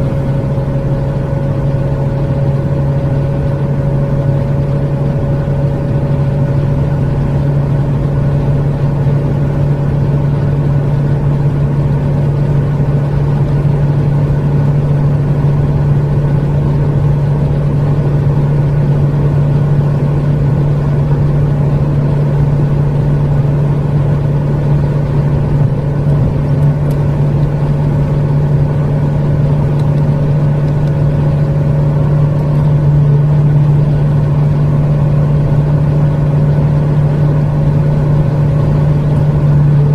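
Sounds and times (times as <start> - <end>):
car engine drone accelerating: 0.0 - 39.9
road and wind noise: 0.0 - 39.9.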